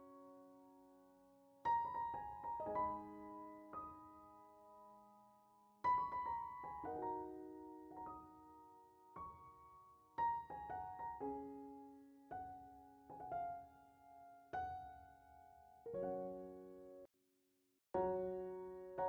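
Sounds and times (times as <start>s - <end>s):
soft piano music: 0.0s - 17.1s, 18.0s - 19.0s.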